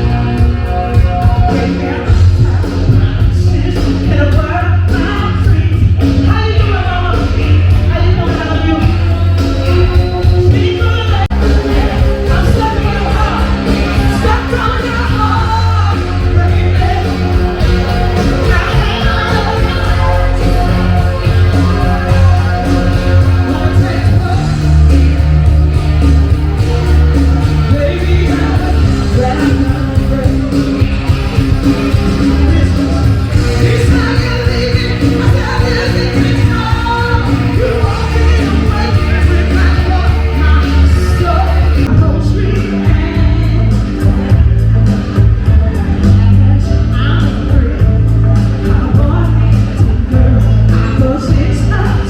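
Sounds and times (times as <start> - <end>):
soul music with singing and bass: 0.0 - 52.0.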